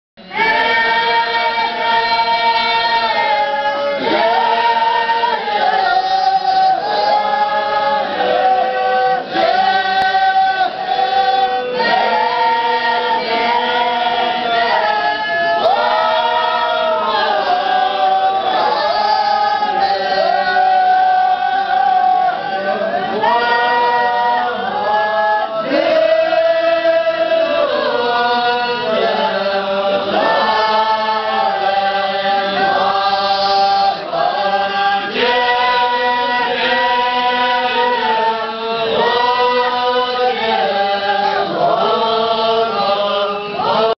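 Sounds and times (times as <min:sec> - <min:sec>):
monks chanting in unison: 0:00.4 - 0:43.9.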